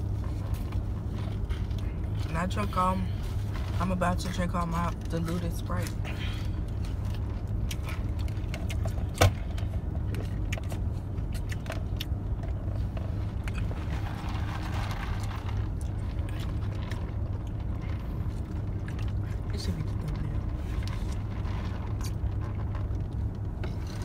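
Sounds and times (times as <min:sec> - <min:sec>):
car cabin hum: 0:00.0 - 0:24.0.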